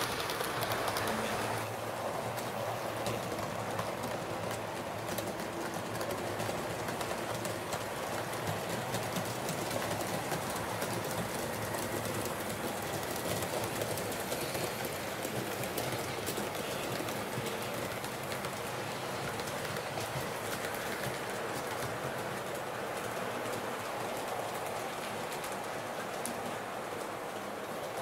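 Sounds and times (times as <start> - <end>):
model train rolling on track: 0.0 - 28.0.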